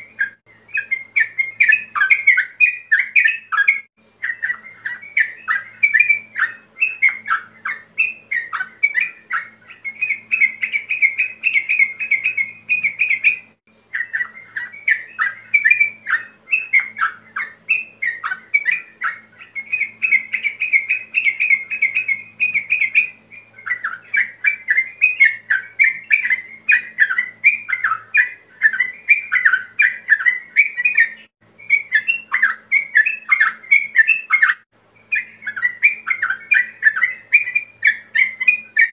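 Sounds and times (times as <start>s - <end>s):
bird singing bubbly chirps: 0.0s - 38.9s.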